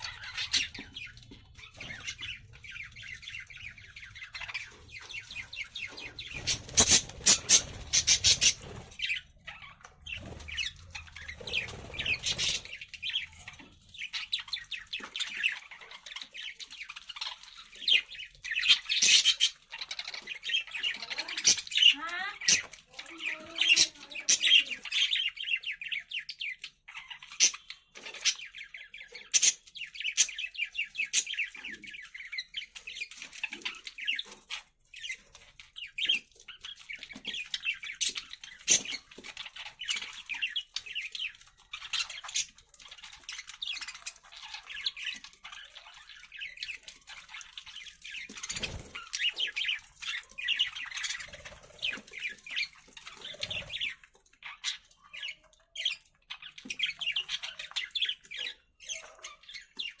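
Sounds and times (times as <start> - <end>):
budgerigars chirping and chattering: 0.0 - 60.0.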